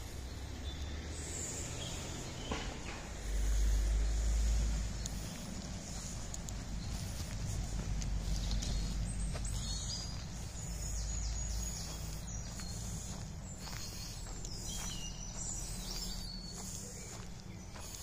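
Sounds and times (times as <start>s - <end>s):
small songbirds singing: 0.0s - 18.0s
steady low rumble: 0.0s - 18.0s
footsteps on pine needles: 1.2s - 18.0s.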